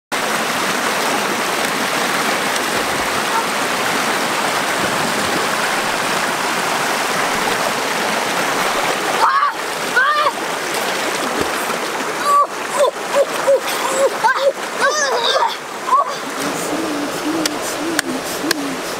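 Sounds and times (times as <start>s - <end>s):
river water rushing over rocks: 0.2s - 18.9s.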